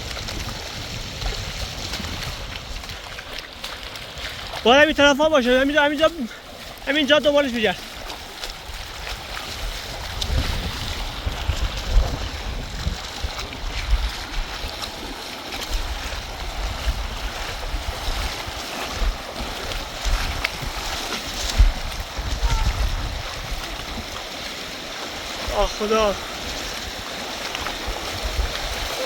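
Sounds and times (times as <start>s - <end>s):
river rushing: 0.0s - 29.0s
wind buffeting microphone: 0.0s - 29.0s.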